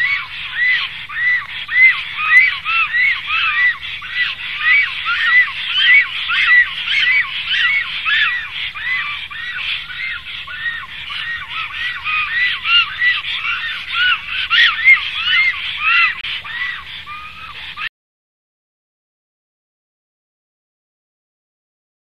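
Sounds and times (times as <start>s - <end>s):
birds calling: 0.0s - 17.9s.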